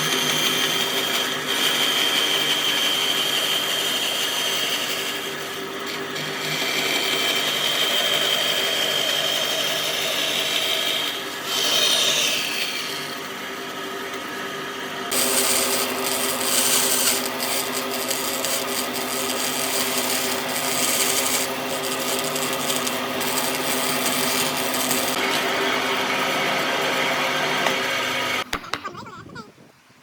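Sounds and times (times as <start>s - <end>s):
power tool cutting wood: 0.0s - 28.8s.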